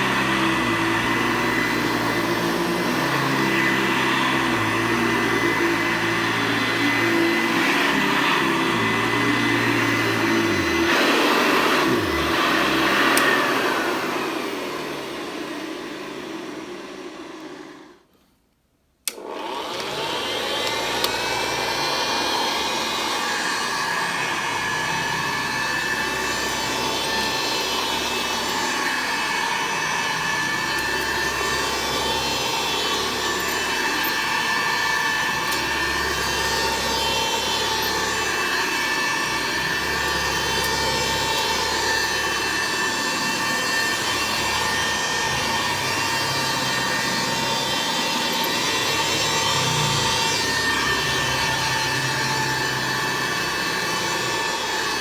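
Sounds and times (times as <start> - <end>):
vacuum motor winding down: 0.0 - 18.0, 19.1 - 55.0
vacuum cleaner running: 0.0 - 18.1, 19.0 - 55.0
vacuum motor spinning up: 0.0 - 18.1, 19.1 - 55.0.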